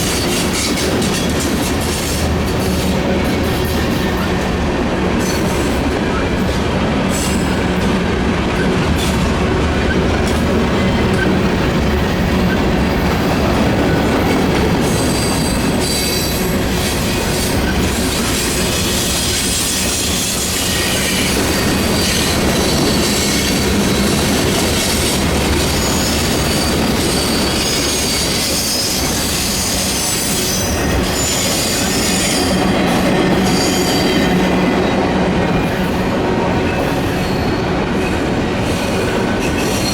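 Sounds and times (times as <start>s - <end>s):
freight train cars rolling: 0.0s - 39.9s.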